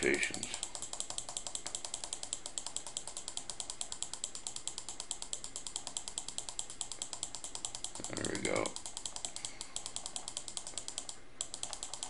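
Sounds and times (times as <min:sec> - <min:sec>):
mouse button clicking rapidly: 0:00.0 - 0:12.0.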